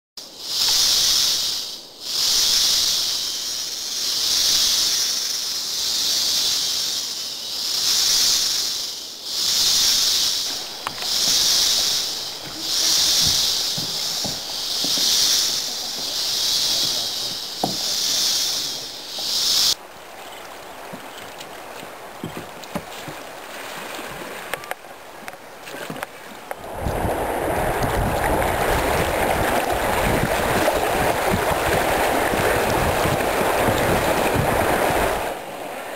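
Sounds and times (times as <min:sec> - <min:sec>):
insect chorus buzzing: 0:00.2 - 0:35.9
rush of water and wind: 0:00.2 - 0:35.9.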